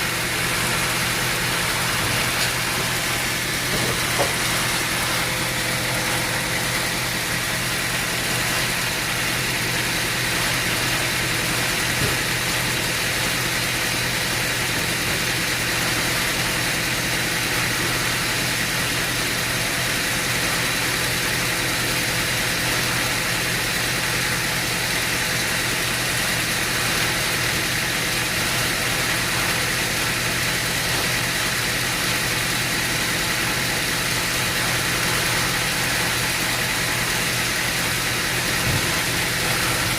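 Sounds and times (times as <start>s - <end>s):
constant machine whine: 0.0s - 39.9s
sawmill machinery drone: 0.0s - 39.9s.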